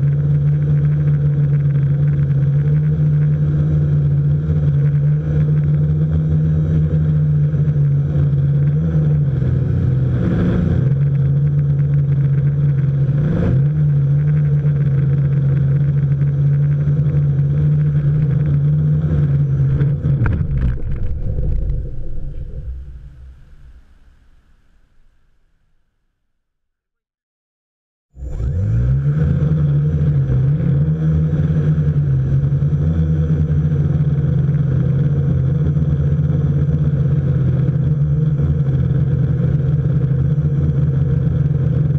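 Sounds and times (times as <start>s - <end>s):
drone motors and propellers droning: 0.0s - 24.7s, 28.2s - 41.9s.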